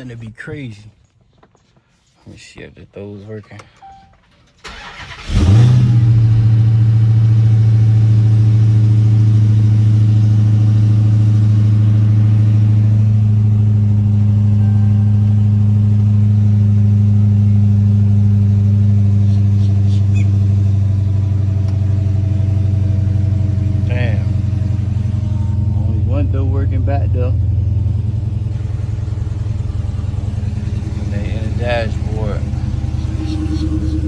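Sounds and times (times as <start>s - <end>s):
car engine starting and idling: 3.8s - 34.0s.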